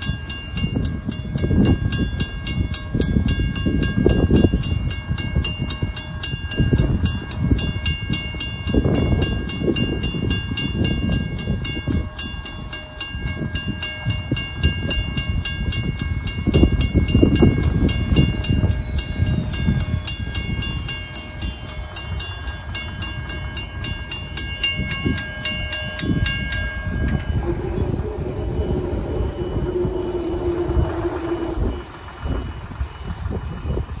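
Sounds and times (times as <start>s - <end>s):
mechanical crossing bell ringing: 0.0s - 33.4s
wind buffeting microphone: 0.0s - 34.0s.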